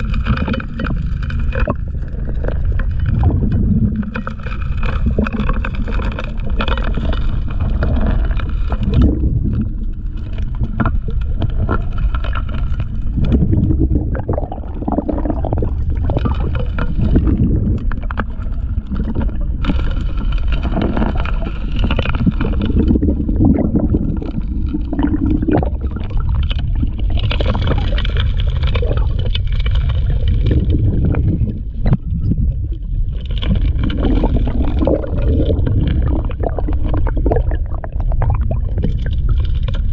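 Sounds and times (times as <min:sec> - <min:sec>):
muffled underwater pump drone: 0:00.0 - 0:39.9.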